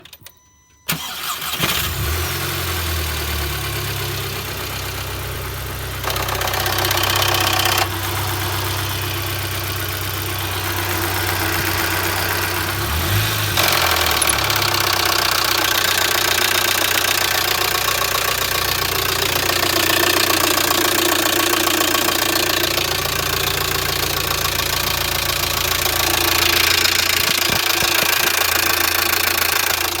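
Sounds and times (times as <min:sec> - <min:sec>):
car engine starting: 0:00.9 - 0:30.0
engine idling with a rattle: 0:03.2 - 0:30.0.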